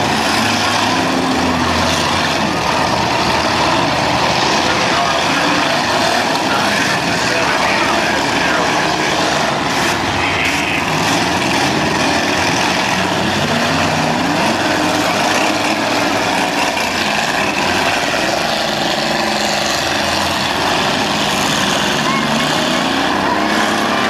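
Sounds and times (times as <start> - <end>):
car engines running together: 0.0 - 24.0.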